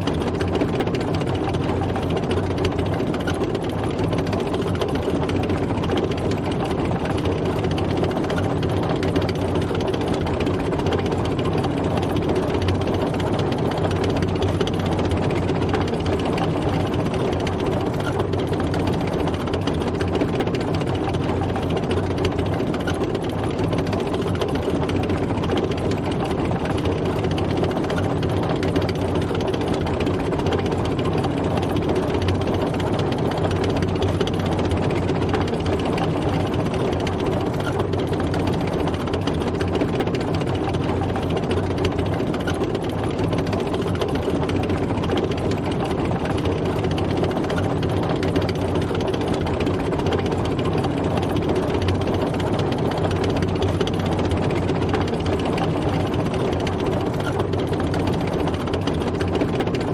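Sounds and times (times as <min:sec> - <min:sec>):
dense mechanical rattle: 0:00.0 - 0:59.9
tank engine running: 0:00.0 - 0:59.9.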